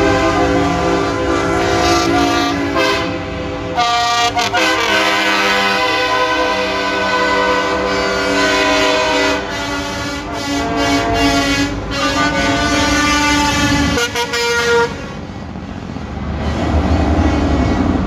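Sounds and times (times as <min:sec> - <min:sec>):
truck air horns: 0:00.0 - 0:15.3
trucks rumbling past: 0:00.0 - 0:18.0.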